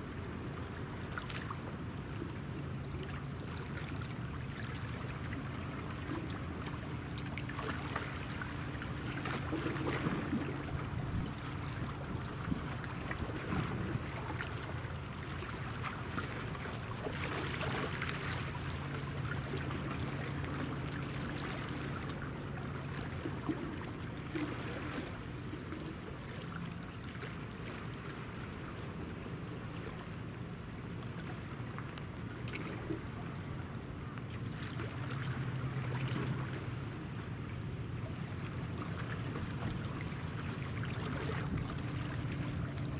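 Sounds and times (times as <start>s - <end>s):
small waves: 0.0s - 42.9s.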